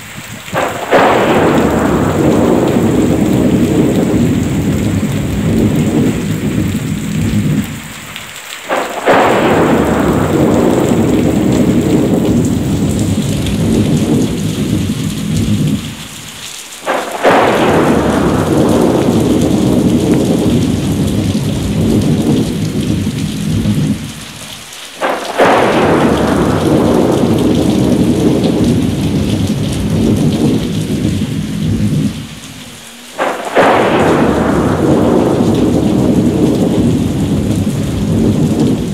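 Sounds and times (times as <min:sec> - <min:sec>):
heavy rain: 0:00.0 - 0:38.9
thunderclaps rolling: 0:00.0 - 0:38.9.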